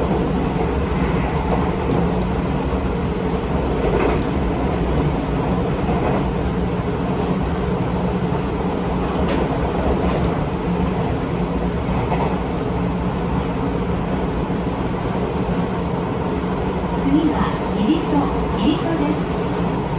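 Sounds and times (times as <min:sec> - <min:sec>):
electric train rolling rumble: 0:00.0 - 0:19.9.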